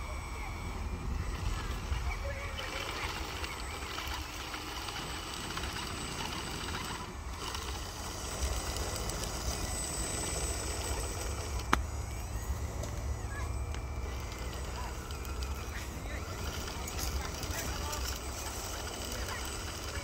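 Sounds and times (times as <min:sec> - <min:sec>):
model bulldozer running: 0:00.0 - 0:20.0.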